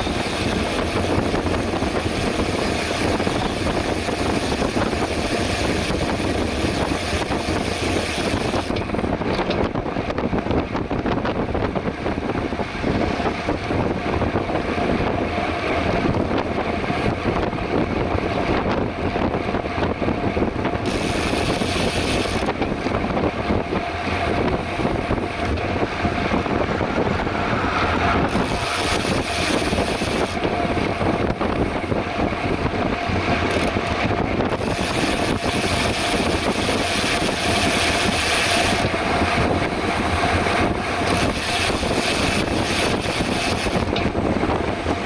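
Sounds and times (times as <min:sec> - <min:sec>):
bicycle tyre and road noise: 0:00.0 - 0:45.0
wind rush over microphone: 0:00.0 - 0:45.0.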